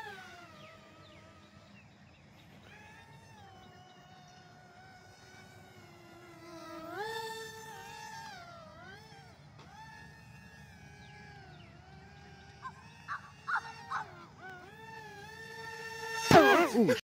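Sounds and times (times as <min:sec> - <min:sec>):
toy jet electric motor whining: 0:00.0 - 0:17.0.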